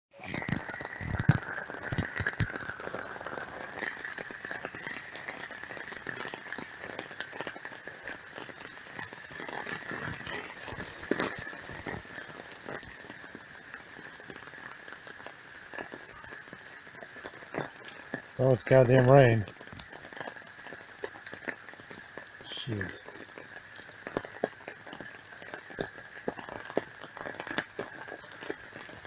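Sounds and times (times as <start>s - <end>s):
heavy rain falling: 0.1s - 29.0s.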